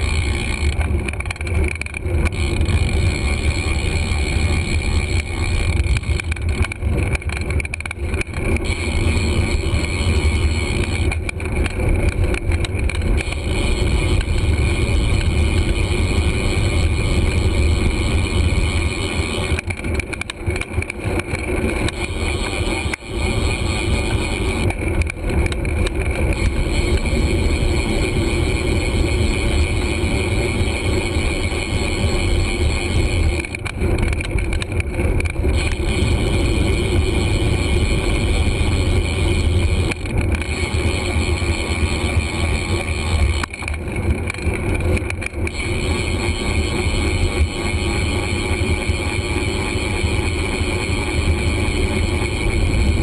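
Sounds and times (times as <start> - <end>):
bicycle road noise: 0.0 - 53.0.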